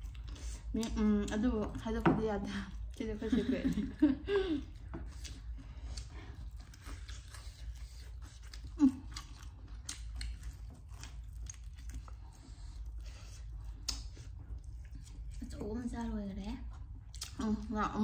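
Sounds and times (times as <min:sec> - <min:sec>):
crunchy chewing: 0:00.0 - 0:04.0, 0:04.6 - 0:17.7.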